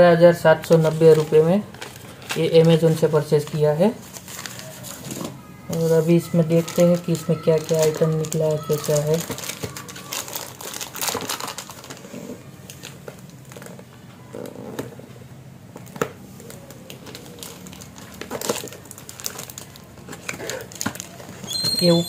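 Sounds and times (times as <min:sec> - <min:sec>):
plastic wrapper crinkling: 0:00.5 - 0:14.0, 0:15.8 - 0:22.0.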